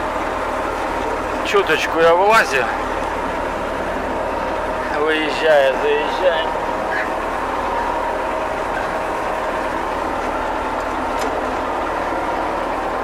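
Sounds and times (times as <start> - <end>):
diesel engine drone with whine: 0.0 - 13.0.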